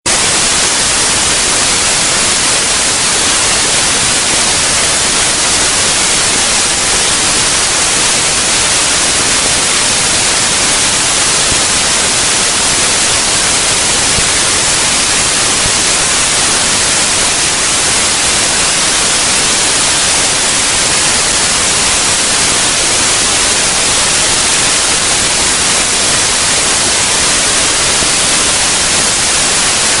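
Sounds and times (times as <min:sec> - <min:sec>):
loud white noise hiss: 0:00.0 - 0:30.0.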